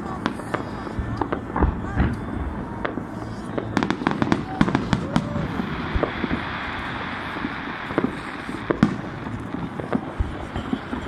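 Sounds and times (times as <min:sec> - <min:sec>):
firework bangs: 0:00.0 - 0:11.0
fireworks hissing and crackling: 0:00.0 - 0:11.0.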